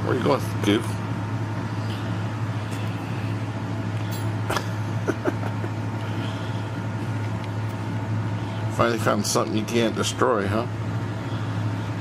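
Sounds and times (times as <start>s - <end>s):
box fan humming: 0.0s - 12.0s.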